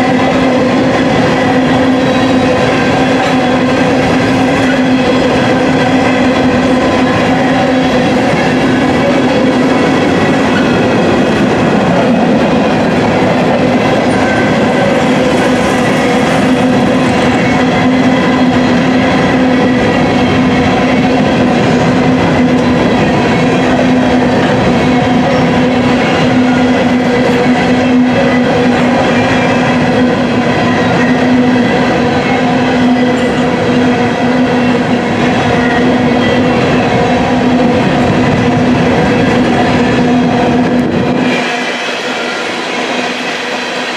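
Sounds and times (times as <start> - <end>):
steel wheels rumbling on rails: 0.0 - 43.9.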